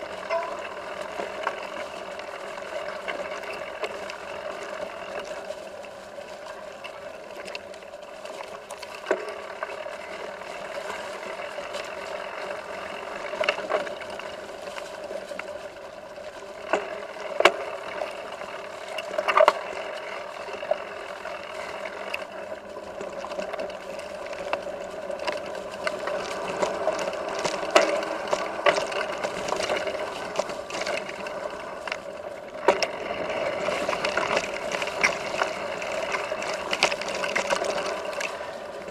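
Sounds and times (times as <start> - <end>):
bike rattling on dirt trail: 0.0 - 38.9.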